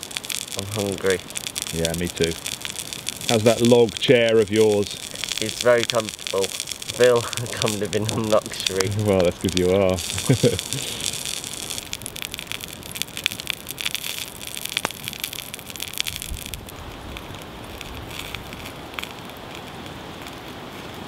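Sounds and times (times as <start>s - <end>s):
campfire crackling and popping: 0.0s - 21.0s
fire hiss: 0.0s - 21.0s.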